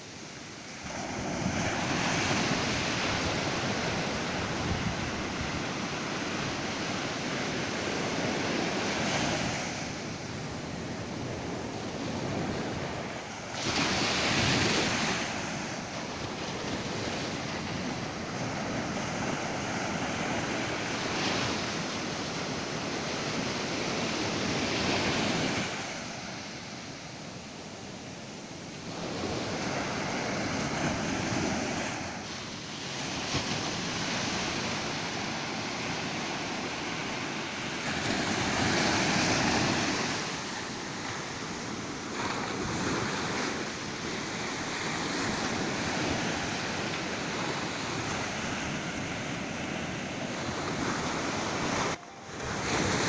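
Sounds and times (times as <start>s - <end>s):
waves breaking on beach: 0.0s - 53.0s
wind rumble on microphone: 0.8s - 53.0s.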